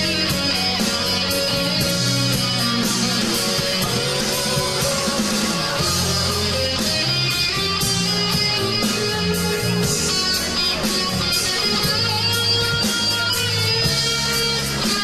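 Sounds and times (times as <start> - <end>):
electric guitar: 0.0 - 15.0
live band playing soft rock: 0.0 - 15.0.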